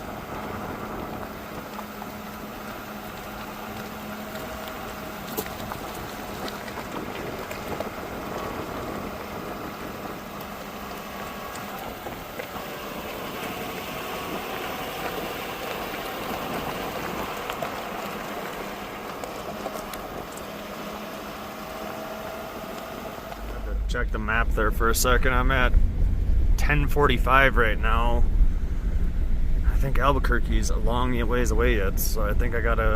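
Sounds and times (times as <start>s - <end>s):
faint hum: 0.0s - 32.9s
pickup engine and tyre noise: 0.0s - 32.9s.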